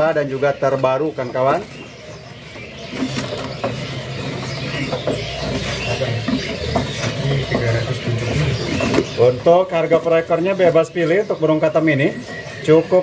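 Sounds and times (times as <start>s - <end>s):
birds scratching and rustling in cages: 0.0s - 13.0s.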